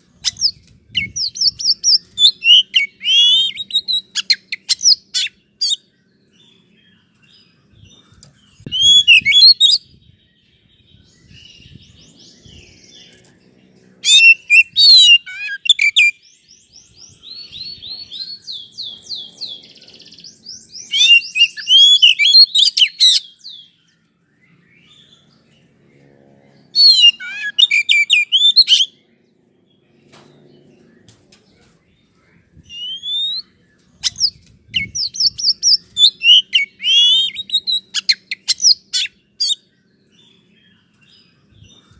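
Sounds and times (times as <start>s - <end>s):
bird song whistles and trills: 0.0s - 41.9s.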